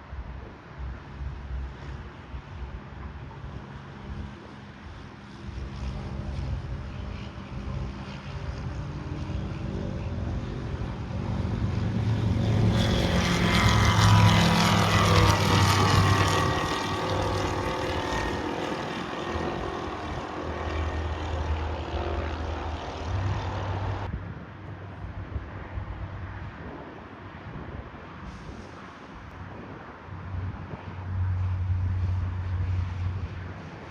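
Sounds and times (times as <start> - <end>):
heavy wind rush: 0.0 - 33.9
propeller aircraft engine running: 0.0 - 33.9.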